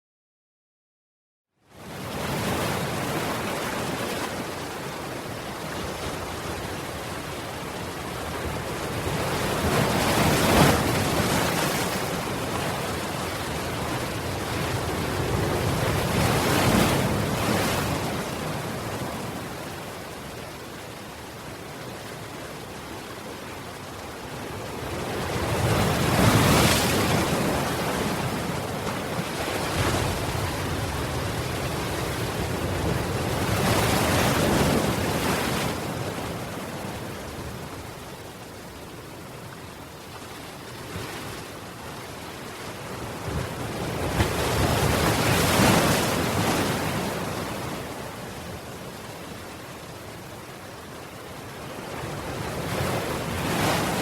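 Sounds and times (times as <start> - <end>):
sea waves washing in: 1.8 - 54.0.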